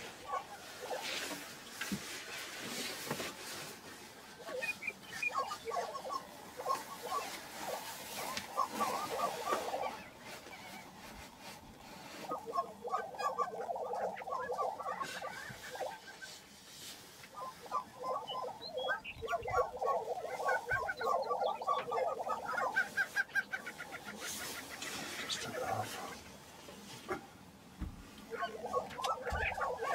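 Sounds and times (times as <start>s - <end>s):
prairie-chickens clucking and chattering: 0.0s - 1.7s, 4.2s - 29.9s.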